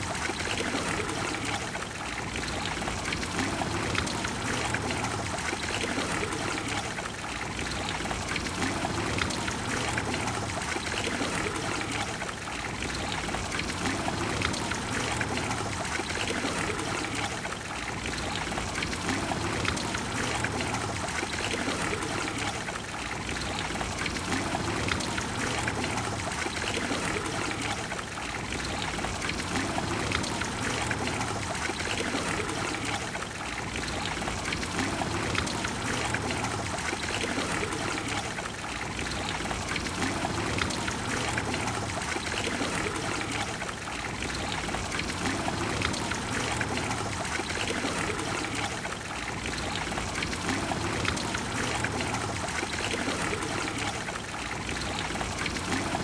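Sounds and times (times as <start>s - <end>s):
fountain water splashing into basin: 0.0s - 56.0s.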